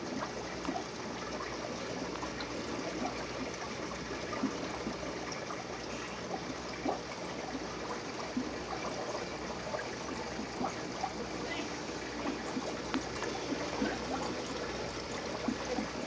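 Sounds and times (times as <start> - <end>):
aquarium water bubbling: 0.0 - 16.0
bubbles bursting: 0.0 - 16.0.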